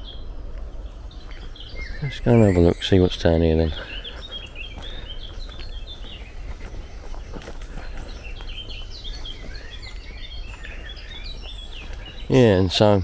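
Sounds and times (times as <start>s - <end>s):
footsteps on leafy dirt path: 0.0s - 13.0s
small birds chirping: 0.0s - 13.0s.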